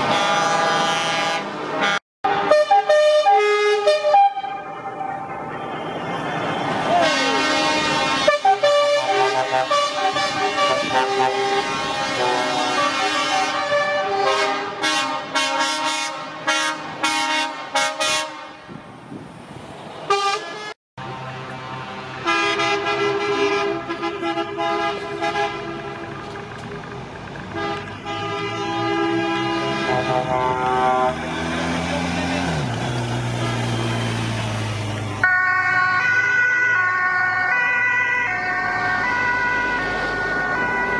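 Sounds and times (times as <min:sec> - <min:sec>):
truck horns honking: 0:00.0 - 0:18.8, 0:20.1 - 0:36.8.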